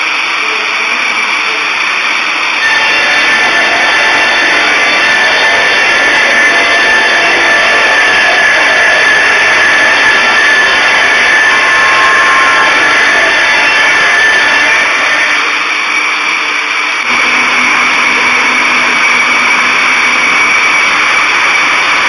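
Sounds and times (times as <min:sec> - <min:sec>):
circular saw machine whining: 0:00.0 - 0:22.0.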